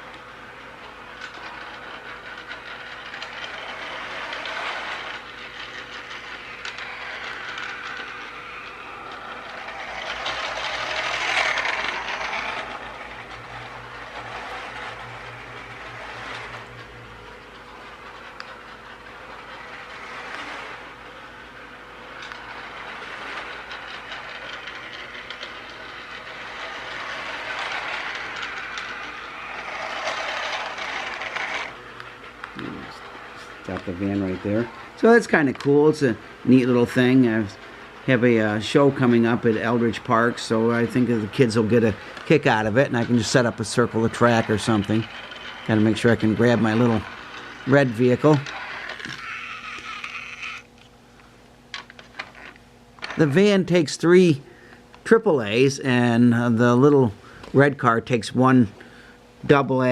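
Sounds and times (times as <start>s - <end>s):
toy motors whirring: 0.0s - 50.9s
toy wheels rolling on rails: 0.0s - 50.9s.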